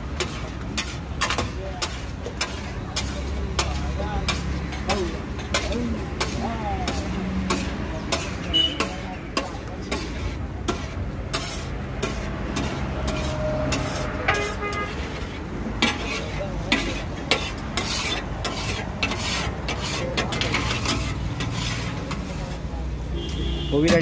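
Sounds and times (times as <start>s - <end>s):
spatula scraping on iron griddle: 0.0s - 22.9s, 23.8s - 24.0s
low sizzle: 0.0s - 23.1s.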